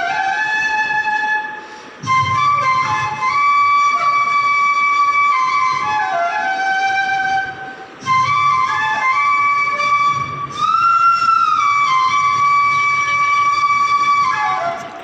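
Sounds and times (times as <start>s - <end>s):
bamboo flute melody: 0.0s - 15.0s.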